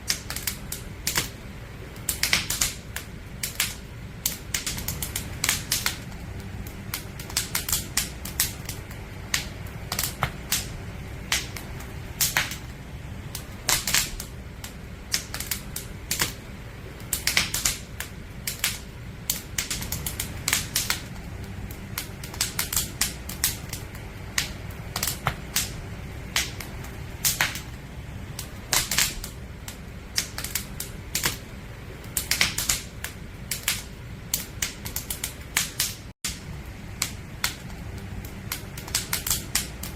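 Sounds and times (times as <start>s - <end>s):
low rumble: 0.0s - 35.6s, 36.2s - 39.9s
campfire crackling: 0.0s - 39.9s.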